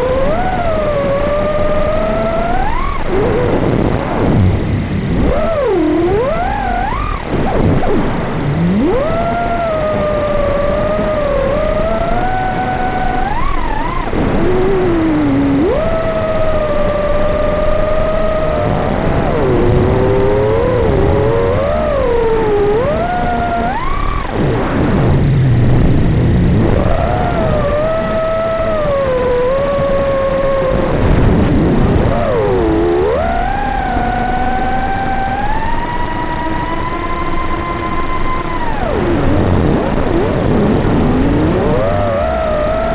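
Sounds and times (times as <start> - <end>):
drone motors whining: 0.0 - 42.9.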